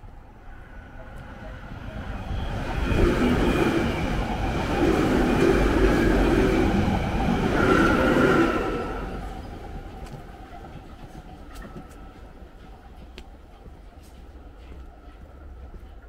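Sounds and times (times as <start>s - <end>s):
train whine: 0.0s - 16.0s
train wheels rumbling: 0.4s - 16.0s.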